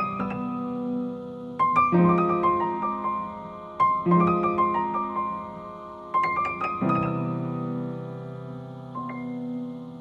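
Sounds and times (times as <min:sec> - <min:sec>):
background piano music: 0:00.0 - 0:10.0.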